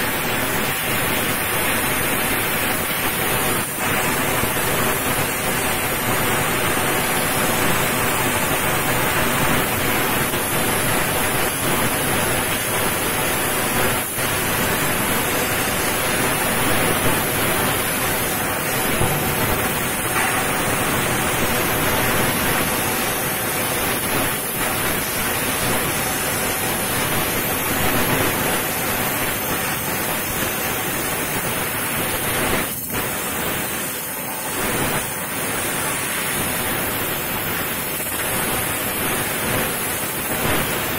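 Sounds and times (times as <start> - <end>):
laser cutter hissing: 0.0 - 40.9.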